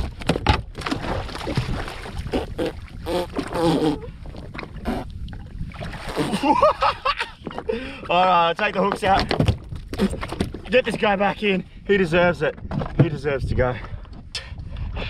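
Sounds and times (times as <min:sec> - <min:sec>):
water splashing and sloshing: 0:00.0 - 0:11.5, 0:12.4 - 0:14.2.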